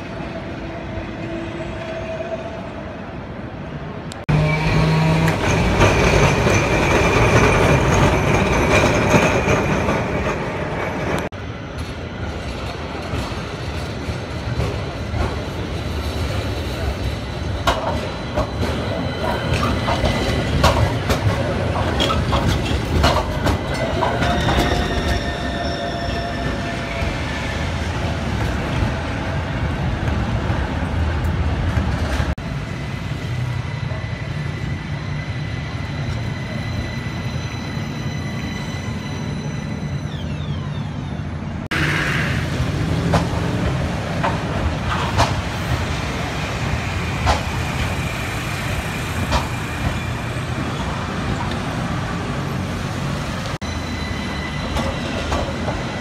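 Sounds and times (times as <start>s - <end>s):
tram wheels rumbling on rails: 0.0s - 56.0s.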